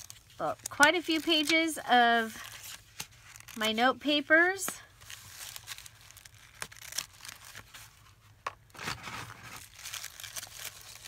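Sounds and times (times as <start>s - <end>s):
paper rustling and crinkling: 0.0s - 3.8s, 4.5s - 11.0s.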